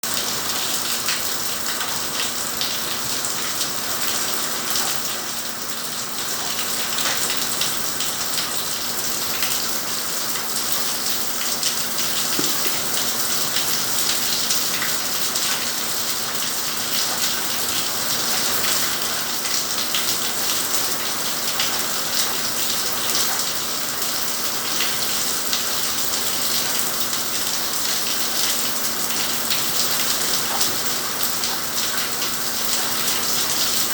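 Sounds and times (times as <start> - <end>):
raindrops hitting surface: 0.1 - 33.9.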